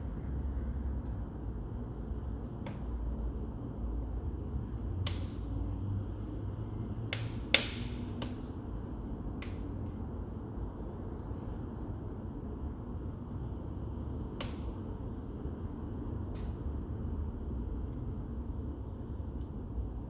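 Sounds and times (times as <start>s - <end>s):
low steady fire rumble: 0.0s - 20.0s.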